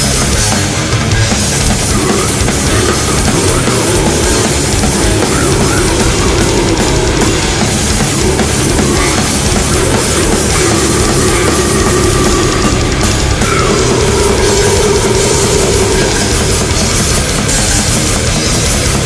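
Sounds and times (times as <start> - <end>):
distorted guitars: 0.0 - 19.0
drums: 0.0 - 19.0.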